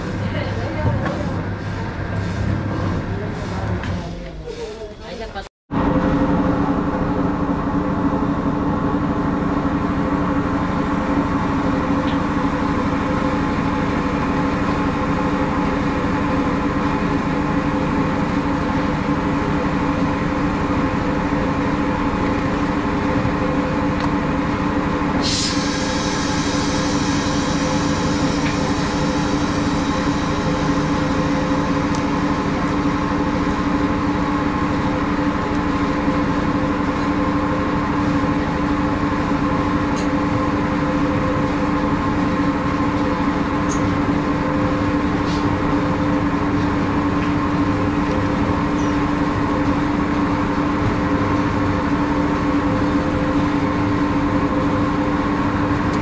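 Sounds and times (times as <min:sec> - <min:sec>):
machine humming: 0:05.7 - 0:56.0.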